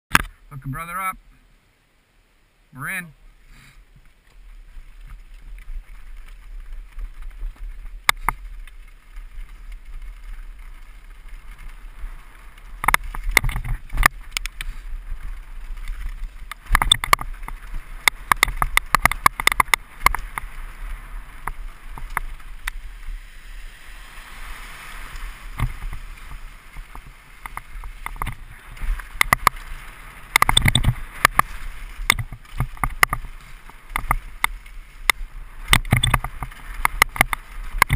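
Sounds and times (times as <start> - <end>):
bike tyres rumbling on dirt: 3.2 - 37.9
bike rattling and clattering: 3.9 - 37.9.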